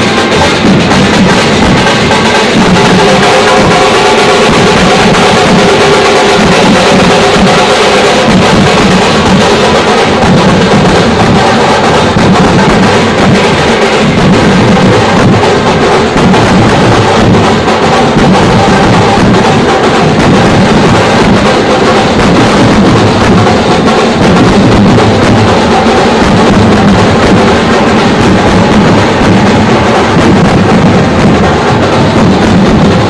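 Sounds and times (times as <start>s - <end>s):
brass band playing festival music: 0.0s - 33.0s
heavy drumming: 0.0s - 33.0s.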